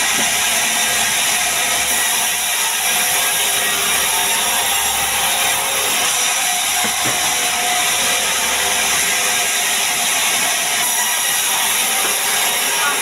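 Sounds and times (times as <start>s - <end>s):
band saw whining through log: 0.0s - 13.0s.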